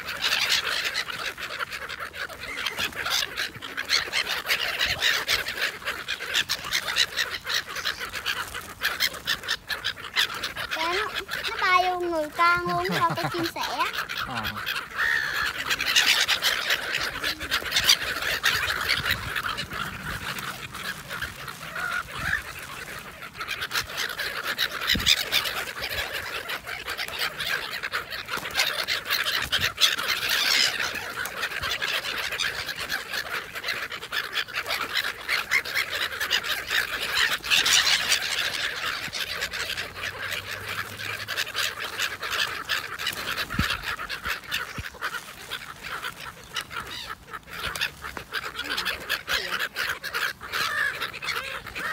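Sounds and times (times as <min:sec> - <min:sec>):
gulls squawking: 0:00.0 - 0:51.9
wings flapping: 0:00.0 - 0:51.9.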